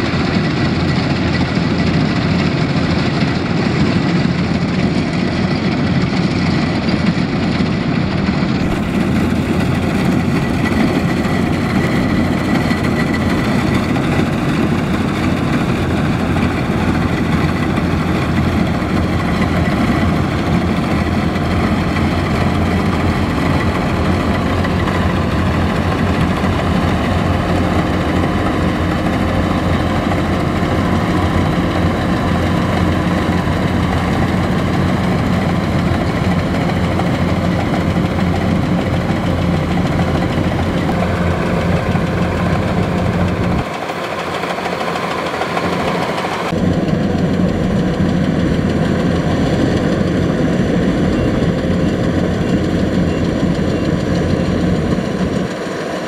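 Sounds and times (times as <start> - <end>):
combine harvester engine: 0.0 - 56.0
faint machinery whine: 0.0 - 56.0.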